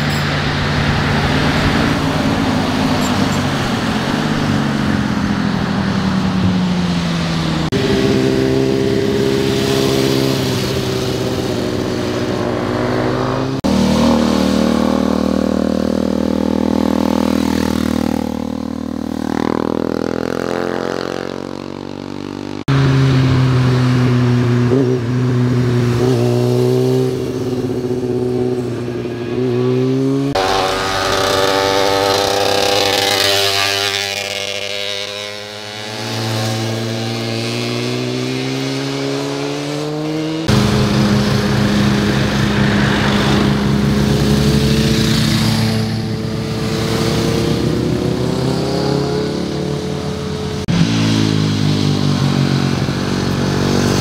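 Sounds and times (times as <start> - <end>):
motorcycle engines revving and passing: 0.0 - 54.0.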